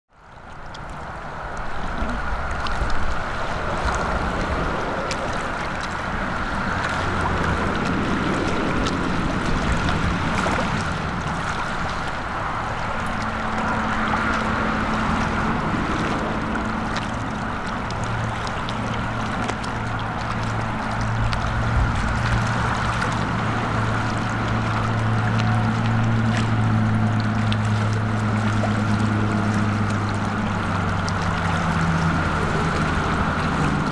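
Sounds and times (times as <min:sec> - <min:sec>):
low propeller hum: 0:00.1 - 0:33.9
propeller plane engine drone: 0:00.1 - 0:33.9.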